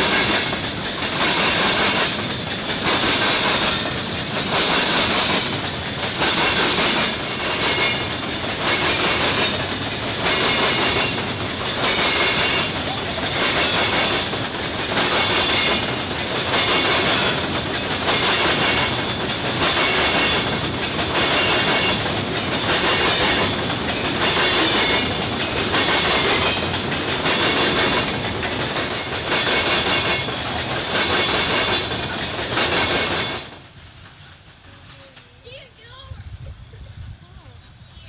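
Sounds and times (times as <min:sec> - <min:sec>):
clickety-clack over rail joints: 0:00.0 - 0:37.8
train wheels rumbling on rail: 0:00.0 - 0:38.0.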